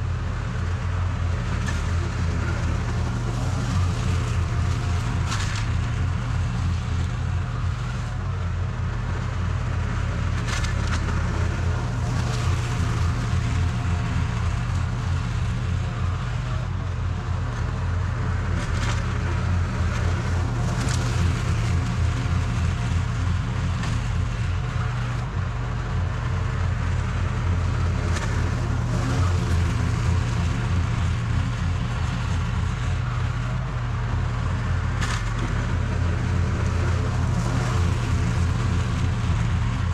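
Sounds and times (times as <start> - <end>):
lawn mower running: 0.0 - 39.9.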